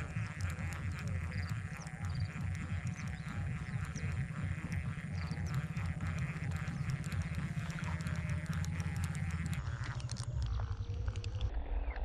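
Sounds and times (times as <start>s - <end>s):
frogs calling: 0.0s - 11.5s
low rumble: 0.0s - 12.0s.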